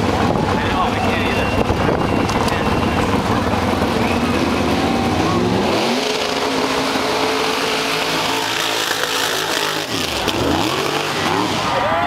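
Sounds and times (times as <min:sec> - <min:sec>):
engine running at high revs: 0:00.0 - 0:12.0.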